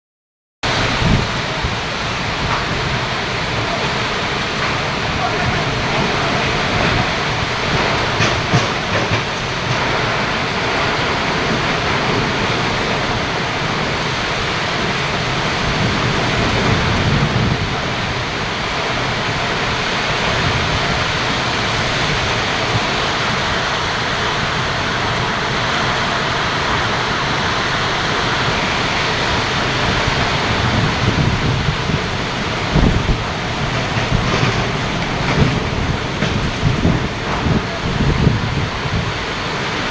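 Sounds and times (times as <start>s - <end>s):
heavy rain downpour: 0.6s - 39.9s
wind gusts on microphone: 0.7s - 39.9s.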